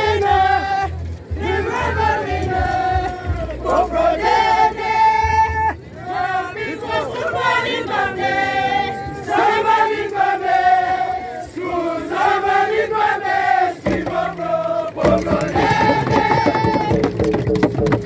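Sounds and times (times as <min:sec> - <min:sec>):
group of voices chanting: 0:00.0 - 0:17.0
crowd noise: 0:00.0 - 0:18.0.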